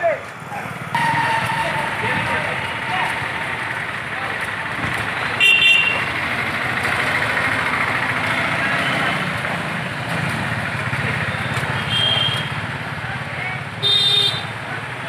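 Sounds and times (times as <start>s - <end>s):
street traffic noise: 0.0s - 15.0s
vehicle engine running: 0.4s - 15.0s.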